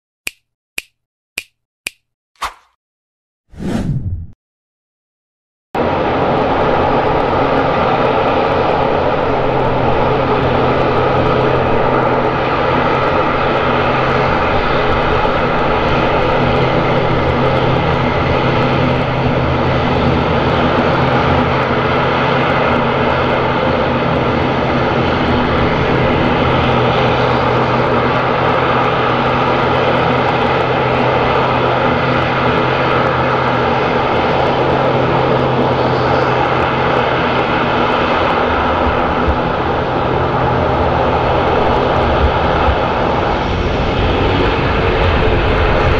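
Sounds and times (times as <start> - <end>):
jet engines humming: 5.8 - 45.9.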